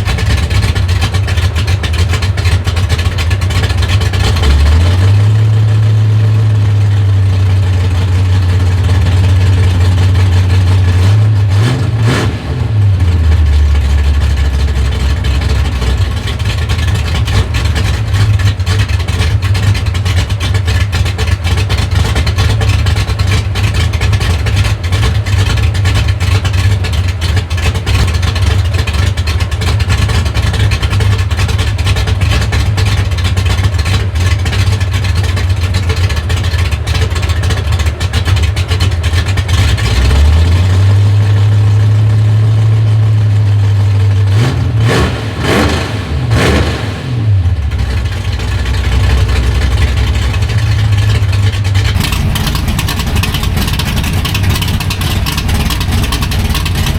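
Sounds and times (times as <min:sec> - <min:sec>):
engine lopey idle and revving: 0:00.0 - 0:56.9.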